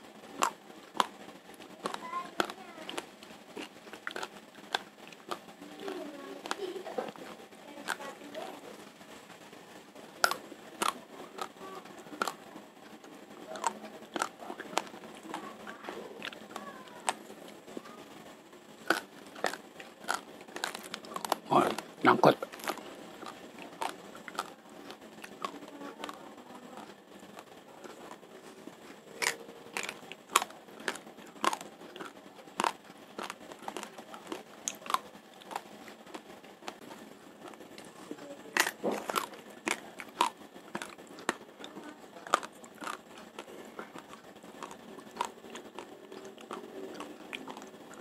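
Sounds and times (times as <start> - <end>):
rice grains crunching: 0.3 - 9.4, 10.2 - 18.1, 18.8 - 48.0.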